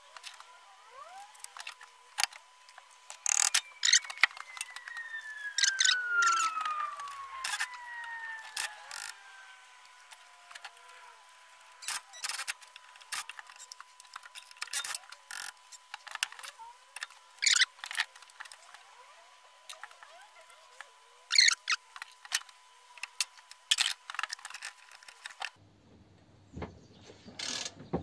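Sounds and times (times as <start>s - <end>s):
bench grinder winding down: 0.0s - 25.6s.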